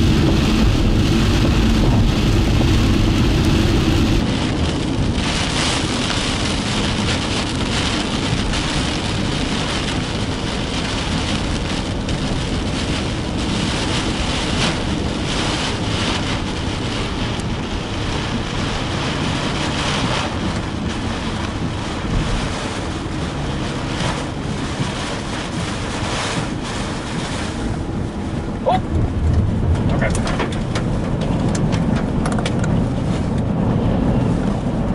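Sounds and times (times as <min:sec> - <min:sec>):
heavy rain on car: 0:00.0 - 0:34.9
strong wind on car: 0:00.0 - 0:34.9.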